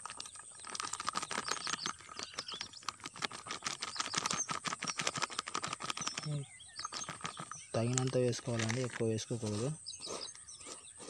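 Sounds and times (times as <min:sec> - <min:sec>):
plastic packet crackling: 0:00.0 - 0:09.3.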